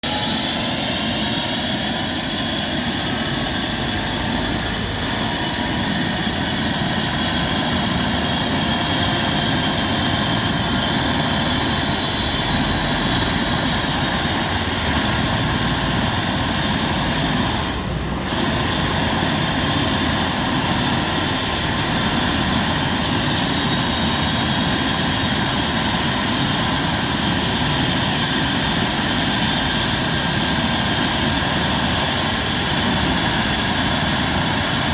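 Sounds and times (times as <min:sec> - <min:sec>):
helicopter turbine and rotor: 0:00.0 - 0:34.9.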